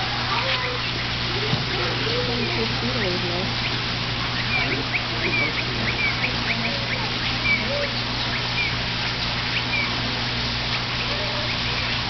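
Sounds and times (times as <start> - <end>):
steady low hum: 0.0 - 12.0
birds chirping and whistling: 0.3 - 12.0.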